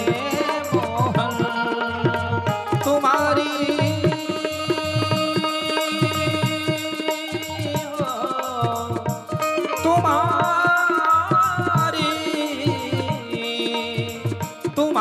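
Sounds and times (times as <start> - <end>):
tabla rhythm: 0.0 - 15.0.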